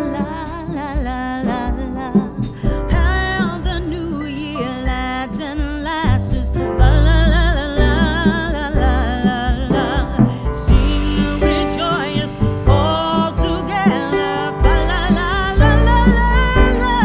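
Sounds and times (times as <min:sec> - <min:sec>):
person singing: 0:00.0 - 0:17.0.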